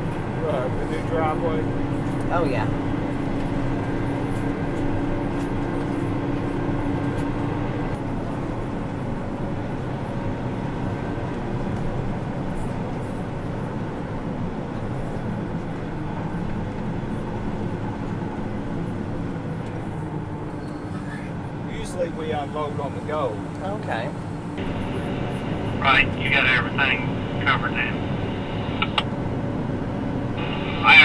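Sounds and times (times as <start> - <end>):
tractor engine drone: 0.0 - 31.0.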